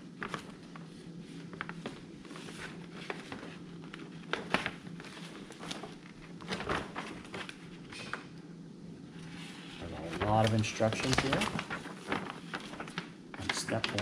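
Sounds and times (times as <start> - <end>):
paper rustling: 0.0 - 8.3, 9.1 - 14.0
low steady hum: 0.0 - 14.0.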